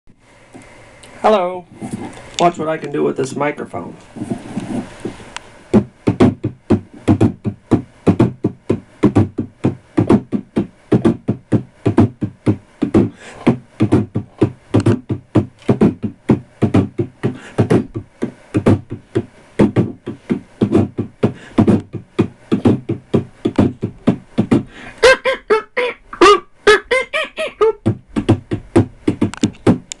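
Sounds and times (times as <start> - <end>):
person beatboxing: 5.7 - 30.0.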